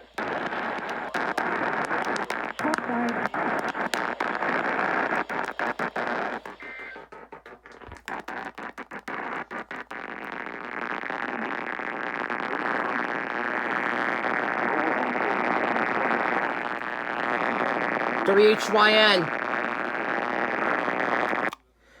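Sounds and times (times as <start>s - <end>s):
radio static crackling and hissing: 0.0s - 21.6s.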